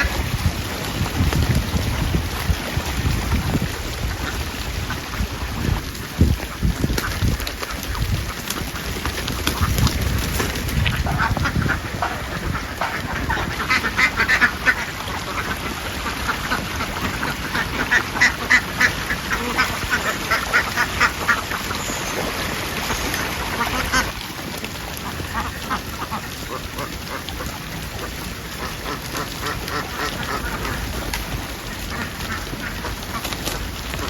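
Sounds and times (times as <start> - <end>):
ducks quacking: 0.0 - 0.4, 3.0 - 34.0.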